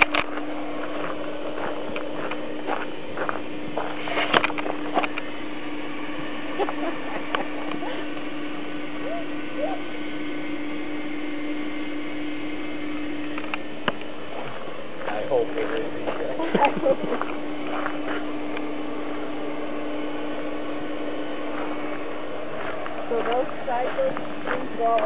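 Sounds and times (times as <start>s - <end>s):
electric air pump humming: 0.0s - 25.0s.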